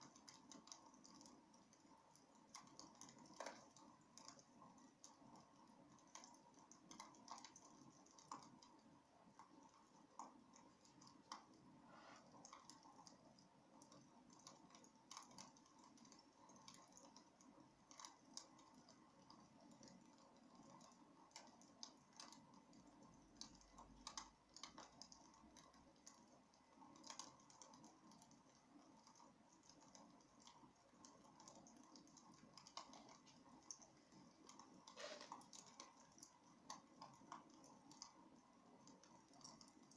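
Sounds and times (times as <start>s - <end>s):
soft steady hiss: 0.0s - 39.9s.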